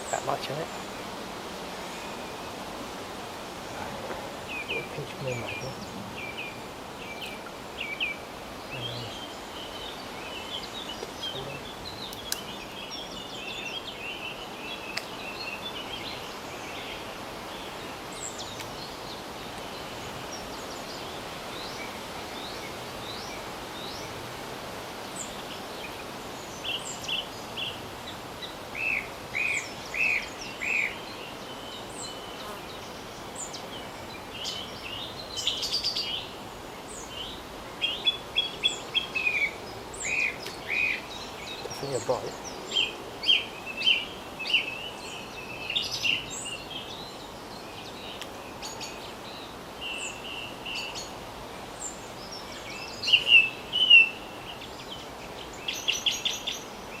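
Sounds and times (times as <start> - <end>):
small birds chirping: 0.0 - 57.0
steady outdoor hiss: 0.0 - 57.0.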